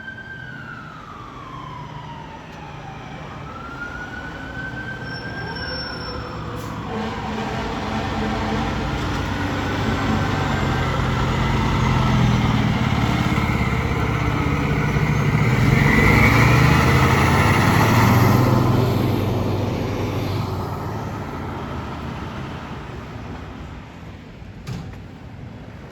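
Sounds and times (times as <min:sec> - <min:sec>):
fire engine driving past: 0:00.0 - 0:24.4.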